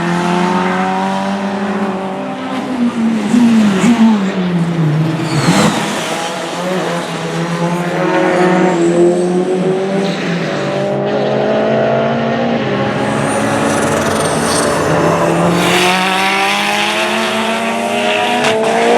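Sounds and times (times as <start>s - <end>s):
race car engine: 0.0s - 18.9s.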